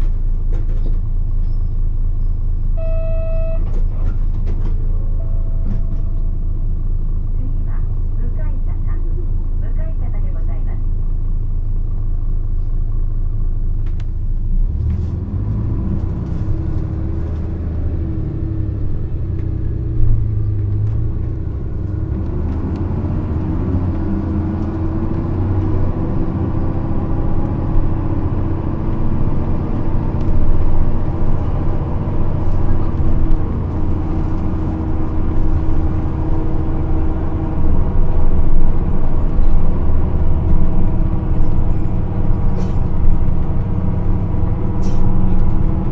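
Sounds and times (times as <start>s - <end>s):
bus diesel engine rumbling: 0.0s - 45.9s.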